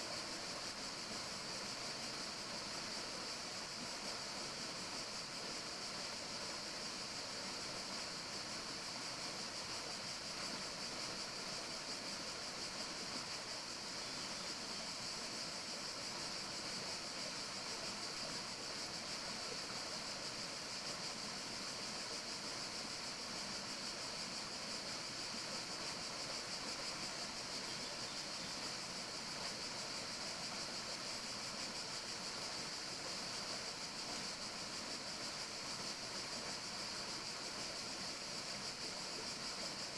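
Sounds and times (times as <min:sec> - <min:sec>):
forest ambience rushing hiss: 0:00.0 - 0:39.9.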